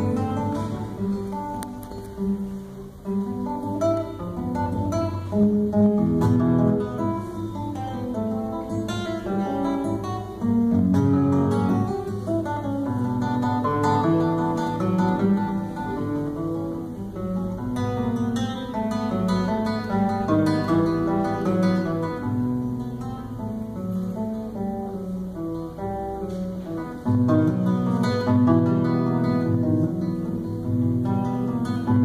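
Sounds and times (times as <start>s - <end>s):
classical guitar playing: 0.0s - 32.0s.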